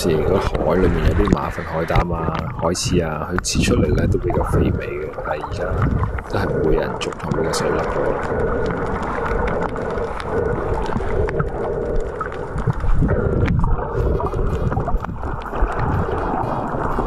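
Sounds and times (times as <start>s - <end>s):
underwater seawater rushing: 0.0s - 17.0s.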